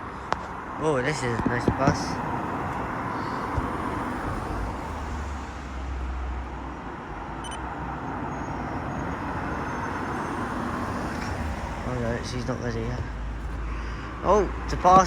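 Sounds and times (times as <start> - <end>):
bus engine drone: 0.0 - 15.0
road traffic noise: 0.0 - 15.0.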